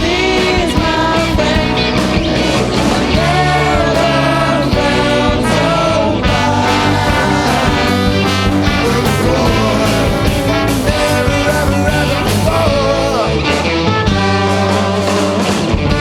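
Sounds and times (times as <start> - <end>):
jazz band playing: 0.0 - 16.0
person singing: 0.0 - 16.0.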